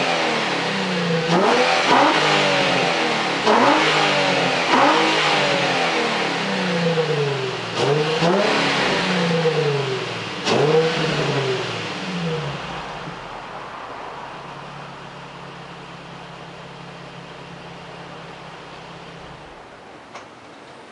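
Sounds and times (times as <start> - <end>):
car engine revving and idling: 0.0 - 20.1.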